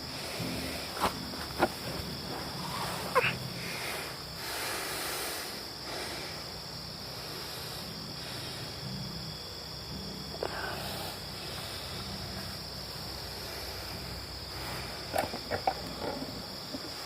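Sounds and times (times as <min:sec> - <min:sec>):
night insects droning: 0:00.0 - 0:17.0.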